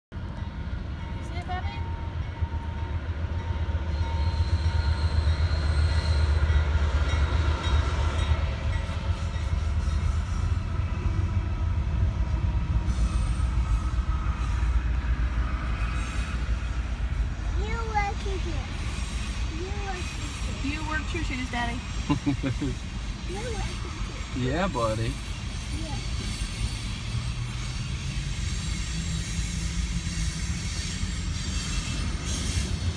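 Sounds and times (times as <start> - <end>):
diesel locomotives rumbling past: 0.1 - 32.9.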